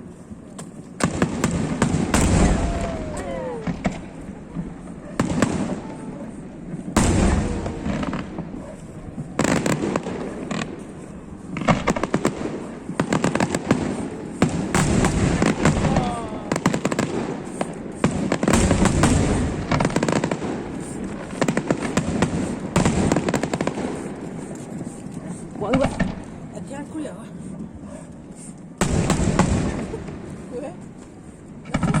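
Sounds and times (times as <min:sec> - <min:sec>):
fireworks crackling: 0:00.0 - 0:32.0
fireworks booming: 0:01.0 - 0:27.0, 0:28.7 - 0:30.7, 0:31.6 - 0:32.0.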